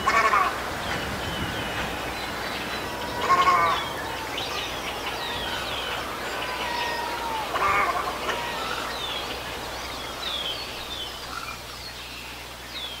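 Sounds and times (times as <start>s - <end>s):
harsh bird call: 0.0s - 11.8s
birds chirping: 0.0s - 13.0s.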